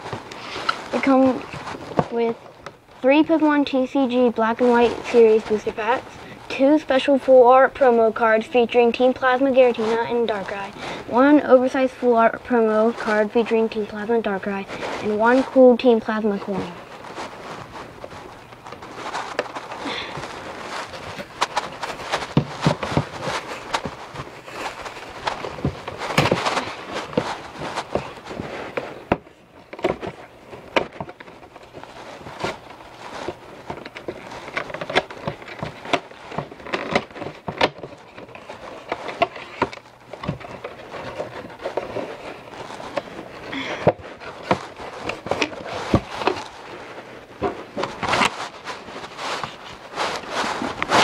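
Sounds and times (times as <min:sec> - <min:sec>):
packaging rustling and crinkling: 0:00.0 - 0:06.6, 0:09.0 - 0:51.0.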